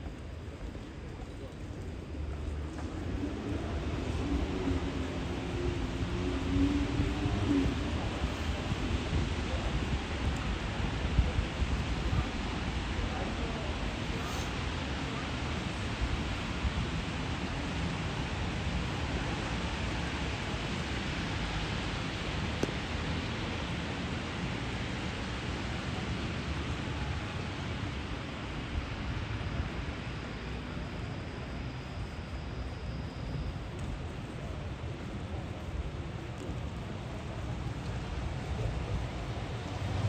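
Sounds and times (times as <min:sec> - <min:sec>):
rain falling on street: 0:00.0 - 0:40.0.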